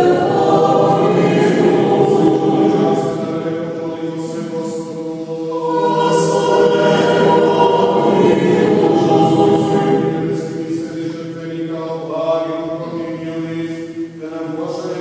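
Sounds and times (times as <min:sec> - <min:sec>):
choir singing a chant: 0:00.0 - 0:15.0.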